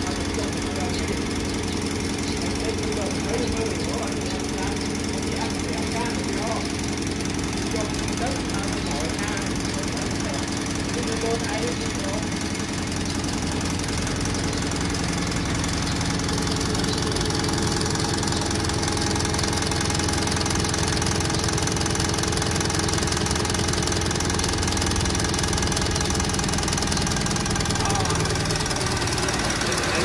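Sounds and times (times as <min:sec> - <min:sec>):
fuel pump humming: 0:00.0 - 0:30.0.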